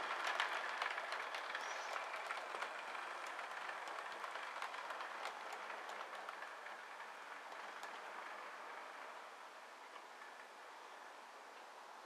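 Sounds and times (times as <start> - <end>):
wheels clicking over rail joints: 0.0 - 11.9
model train whirring: 0.0 - 12.0.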